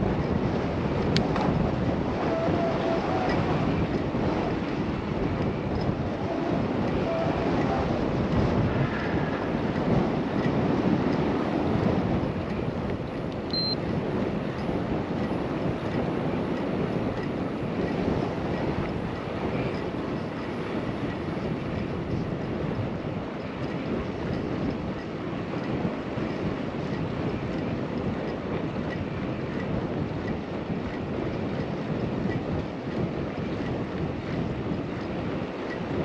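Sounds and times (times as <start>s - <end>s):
bicycle tyre road noise: 0.0s - 36.0s
wind on microphone: 0.0s - 36.0s.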